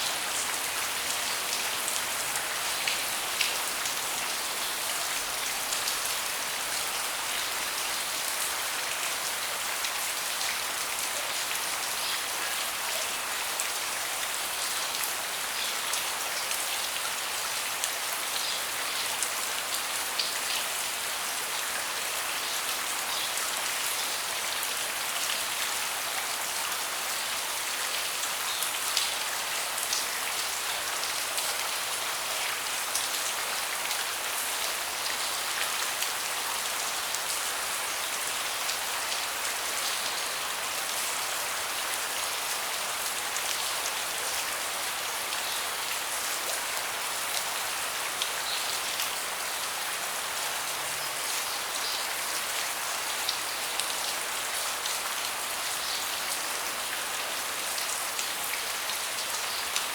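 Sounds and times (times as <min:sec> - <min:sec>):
rain falling on a deck: 0:00.0 - 0:59.9.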